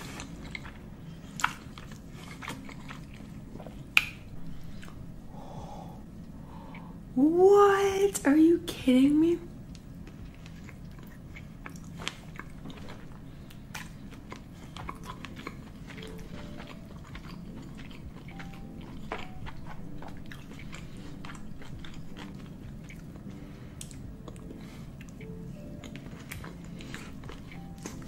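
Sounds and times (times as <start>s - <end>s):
person chewing food: 0.0s - 7.0s, 9.7s - 28.0s.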